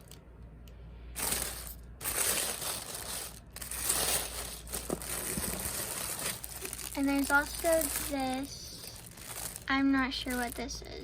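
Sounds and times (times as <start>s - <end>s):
tissue paper crinkling: 1.2s - 11.0s.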